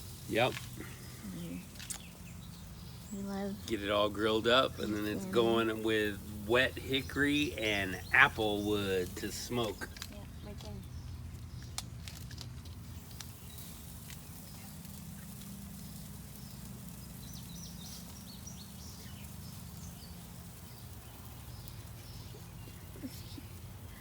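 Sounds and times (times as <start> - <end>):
small birds chirping: 0.0 - 24.0
steady low hum: 0.0 - 24.0.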